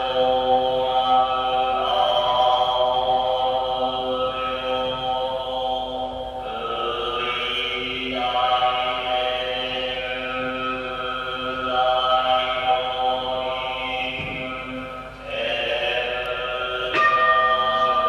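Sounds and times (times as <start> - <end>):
ambient drone music: 0.0 - 18.0.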